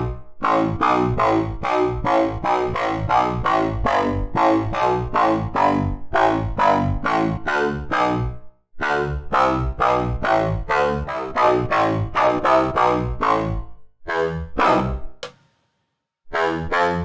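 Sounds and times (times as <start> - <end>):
synth bass repeating notes: 0.0 - 14.9.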